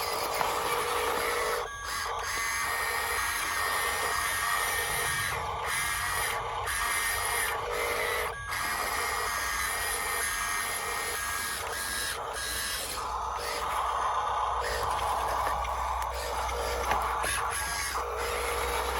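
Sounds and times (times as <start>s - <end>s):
electric motor whining: 0.0s - 18.9s.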